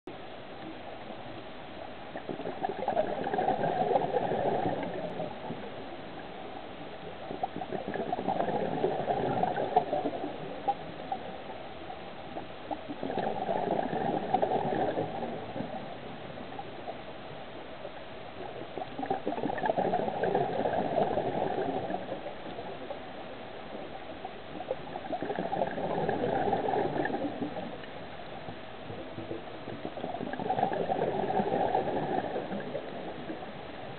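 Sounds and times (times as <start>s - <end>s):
exhaled bubbles underwater: 0.6s - 33.9s.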